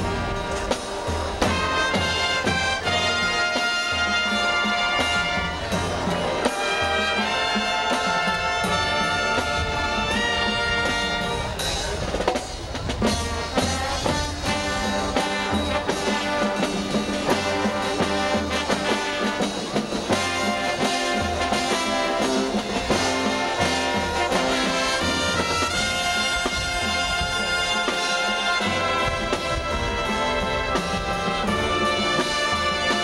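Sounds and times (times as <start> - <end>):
marching drum-line beat: 0.0 - 33.0.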